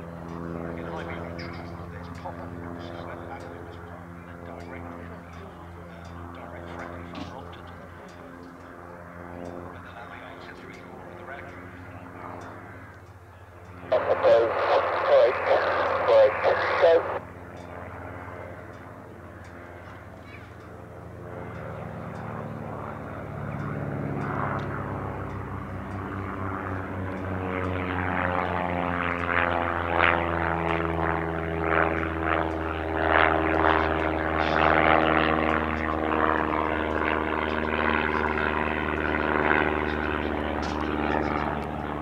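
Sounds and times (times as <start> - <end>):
propeller plane engine drone: 0.0 - 42.0.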